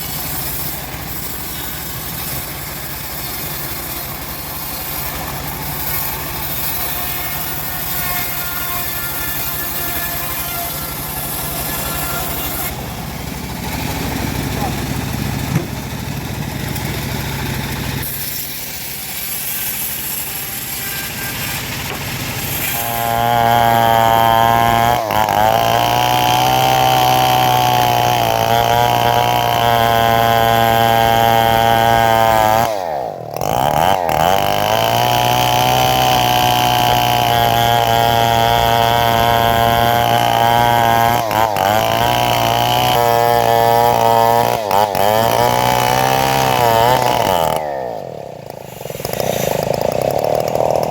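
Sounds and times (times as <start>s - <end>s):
engine-powered saw cutting wood: 0.0s - 50.9s.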